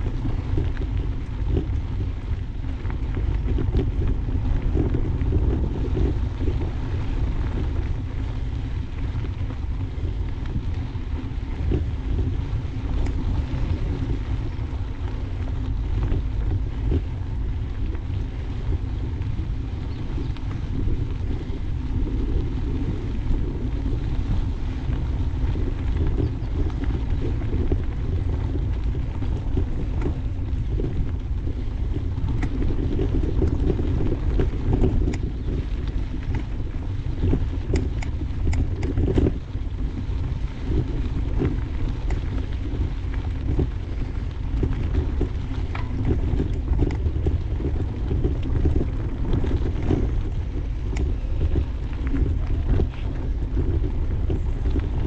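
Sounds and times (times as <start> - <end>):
bike tyres rolling over dirt: 0.0 - 55.0
wind buffeting microphone: 0.0 - 55.0.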